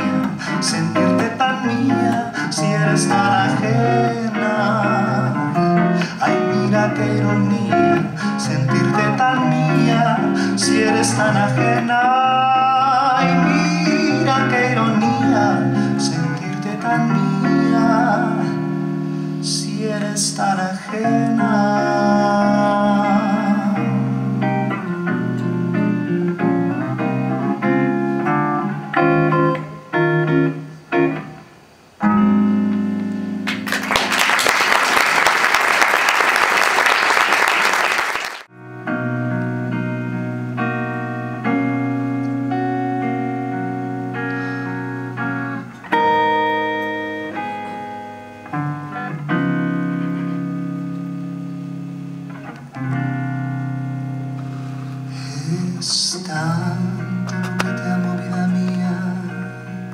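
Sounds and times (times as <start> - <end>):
electric guitar playing solo: 0.0 - 19.5, 21.0 - 59.9.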